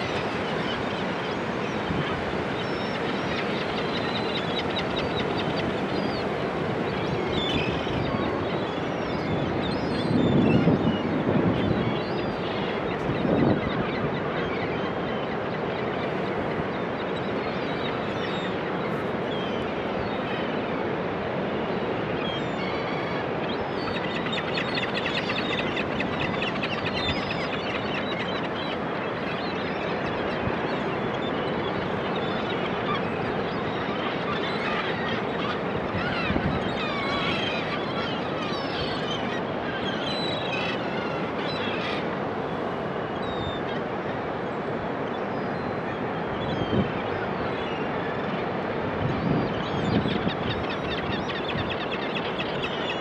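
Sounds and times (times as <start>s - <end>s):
surf on a beach: 0.0s - 53.0s.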